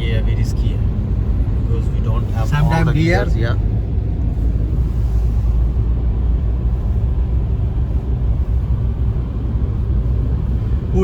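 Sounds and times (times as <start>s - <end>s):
car driving at highway speed: 0.0s - 11.0s.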